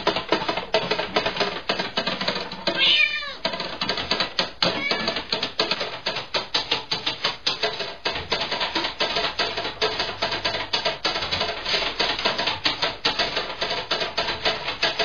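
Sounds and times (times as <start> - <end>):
cat exercise wheel clattering: 0.0 - 15.0.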